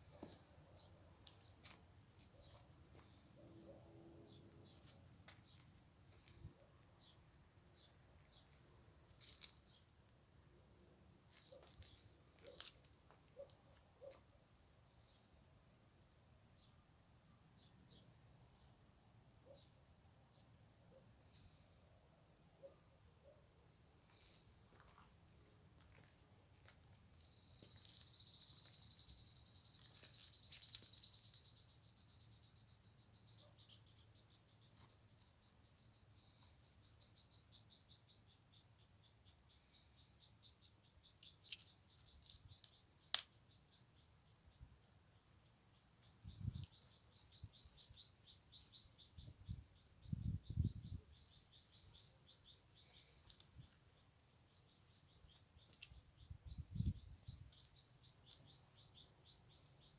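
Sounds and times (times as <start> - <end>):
faint bird chirping: 0.0 - 59.9.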